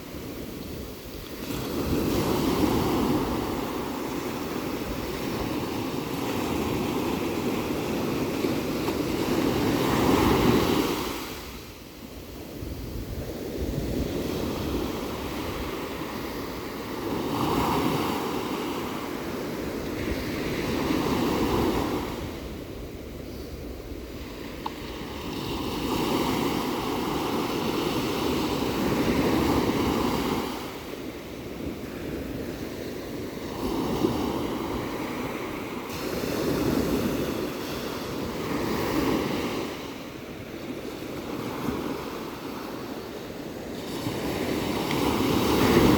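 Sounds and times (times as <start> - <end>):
ocean waves washing in: 0.0 - 45.9
wind on microphone: 0.0 - 45.9.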